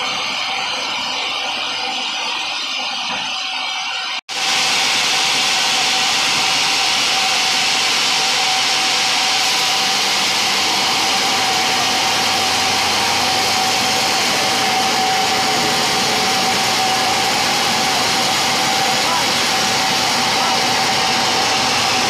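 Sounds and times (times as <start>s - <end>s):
high steady whine: 0.0s - 22.0s
band saw cutting log: 4.3s - 22.0s.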